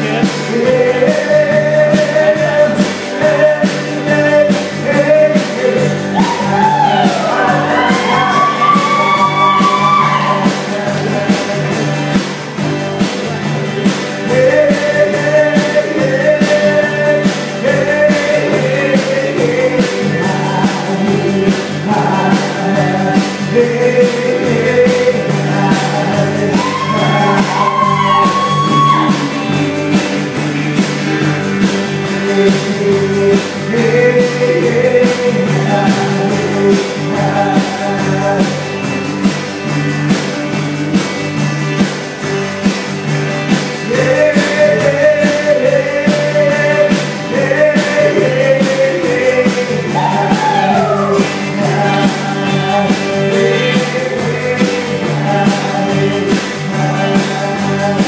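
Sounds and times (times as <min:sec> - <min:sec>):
person singing: 0:00.0 - 0:12.1, 0:14.2 - 0:40.4, 0:43.7 - 0:58.0
live country-rock band: 0:00.0 - 0:58.0.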